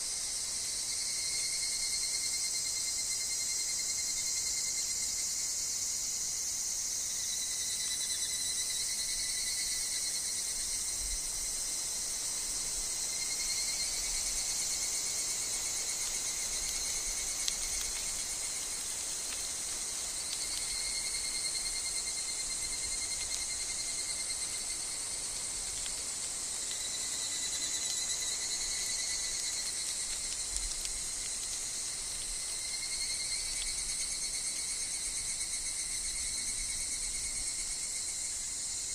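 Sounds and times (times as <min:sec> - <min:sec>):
cicadas calling: 0:00.0 - 0:38.9
shrill insect chorus: 0:00.0 - 0:38.9.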